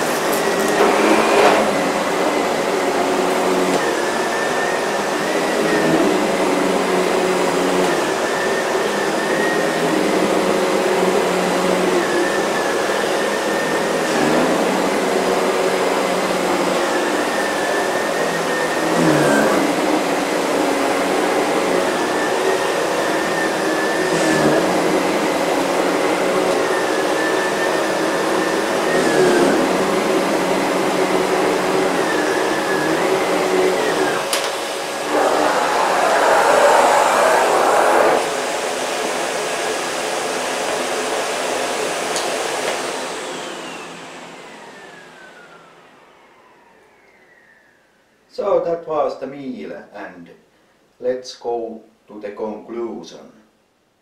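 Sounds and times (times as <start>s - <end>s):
vacuum cleaner running over rug: 0.0s - 47.6s.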